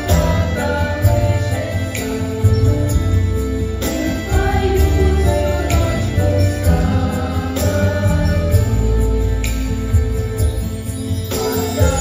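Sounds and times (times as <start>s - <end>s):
instrumental music with strong bass: 0.0s - 12.0s.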